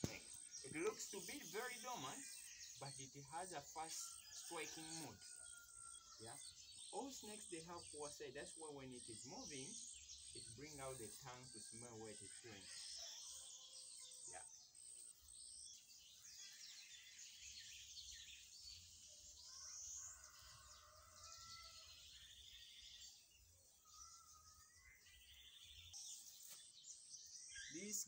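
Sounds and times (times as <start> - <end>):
birds chirping and trilling: 0.0 - 28.0.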